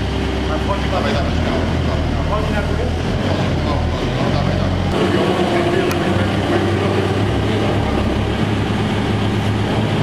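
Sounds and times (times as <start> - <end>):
diesel engine running: 0.0 - 10.0
high machine whine: 0.0 - 10.0.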